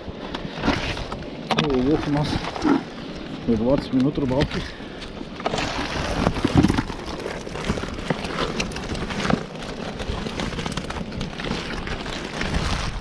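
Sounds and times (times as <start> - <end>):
wet net and fish rustling: 0.1 - 13.0.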